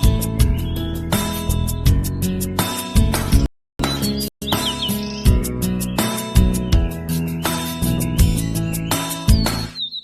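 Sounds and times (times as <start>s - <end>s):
music with beat and plucked guitar: 0.0s - 9.8s.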